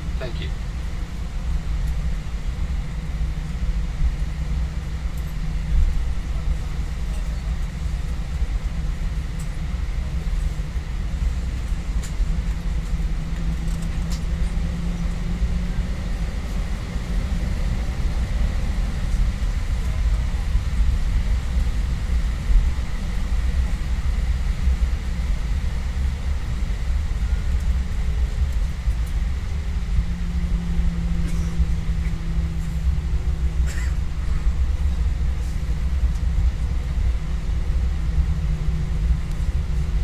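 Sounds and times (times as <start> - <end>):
airplane cabin rumble: 0.0 - 40.0.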